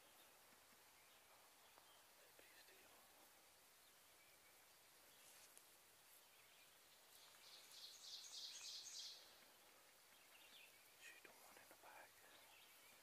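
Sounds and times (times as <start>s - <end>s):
faint songbird call: 0.0s - 5.6s, 6.2s - 13.0s.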